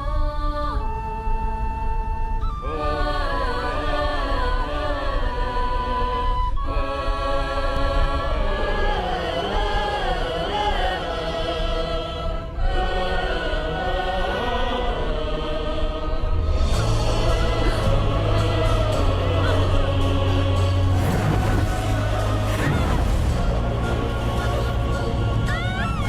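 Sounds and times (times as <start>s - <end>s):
choir singing held chords: 2.5s - 26.0s.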